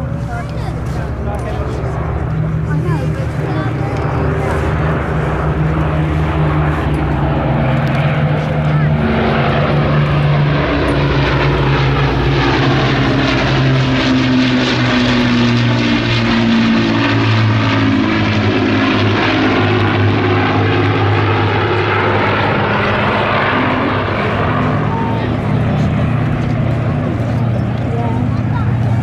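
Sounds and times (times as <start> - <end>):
propeller aircraft engines droning: 0.0 - 29.0.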